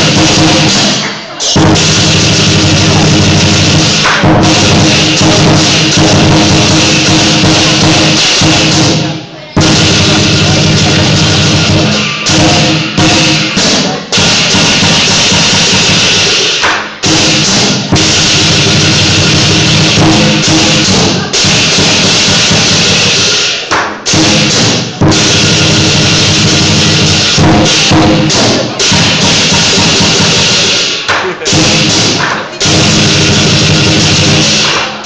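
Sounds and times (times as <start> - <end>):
drum and cymbal percussion music: 0.0 - 35.0.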